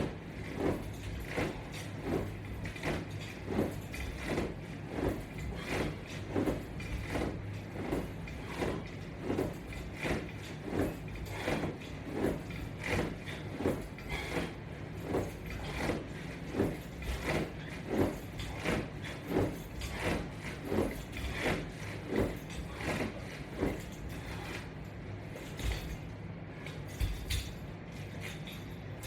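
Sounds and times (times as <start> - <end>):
rhythmic exercise strap sound: 0.0 - 29.0.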